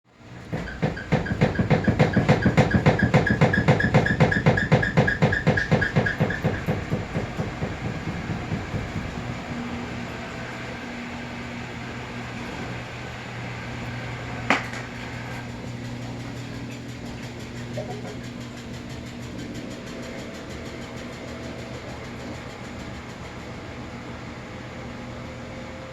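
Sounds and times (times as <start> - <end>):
motor hum: 0.2 - 25.0
washing machine knocking: 0.4 - 23.6.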